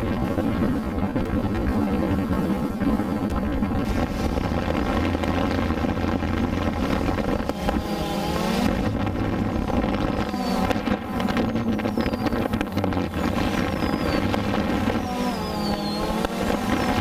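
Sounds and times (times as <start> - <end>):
drone rotors buzzing: 0.0 - 17.0
wind noise on microphone: 0.0 - 17.0.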